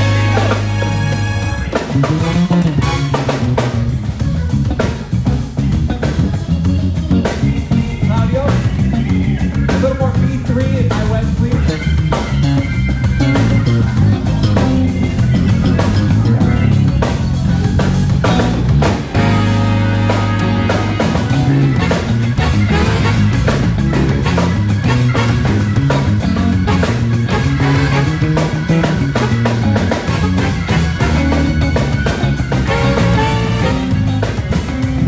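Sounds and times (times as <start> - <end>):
bass line: 0.0 - 35.0
drum kit snare and kick: 0.0 - 35.0
electric guitar: 0.0 - 35.0.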